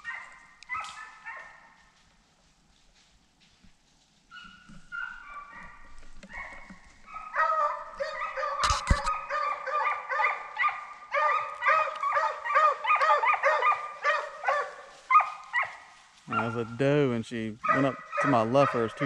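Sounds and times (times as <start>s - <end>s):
hounds baying: 0.0s - 1.9s, 4.3s - 17.0s, 17.6s - 19.0s.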